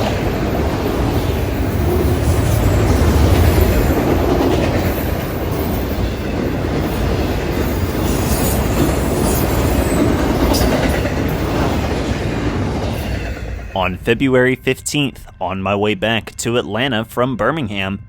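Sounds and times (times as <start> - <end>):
train wheels rumbling on rails: 0.0 - 15.4.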